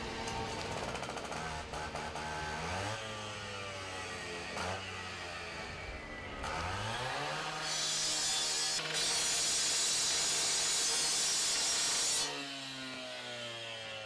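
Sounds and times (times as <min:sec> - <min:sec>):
two-stroke saw engine revving: 0:00.0 - 0:14.0.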